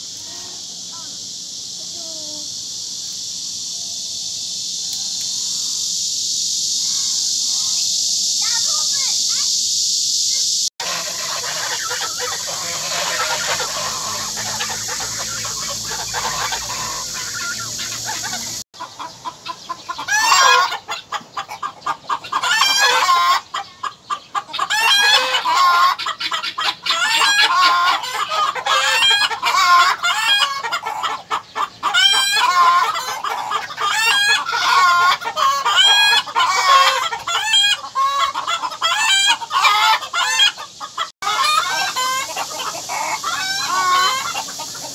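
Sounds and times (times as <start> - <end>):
steady high hiss: 0.0 - 44.9
chickens clucking: 4.6 - 44.9.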